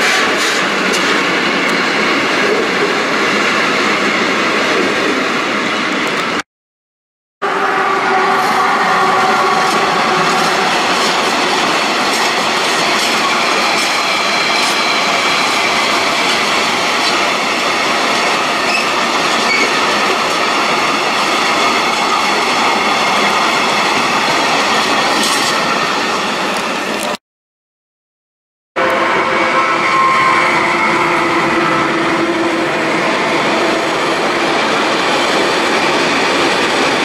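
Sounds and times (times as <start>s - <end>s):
train wheels rumbling on rails: 0.0s - 6.4s, 7.7s - 27.2s, 28.8s - 37.0s.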